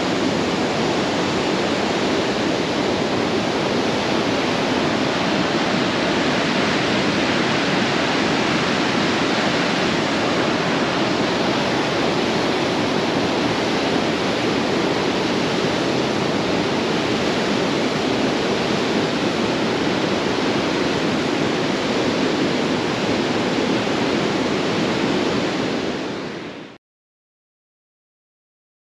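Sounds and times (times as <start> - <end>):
river rapids rushing: 0.0 - 26.8.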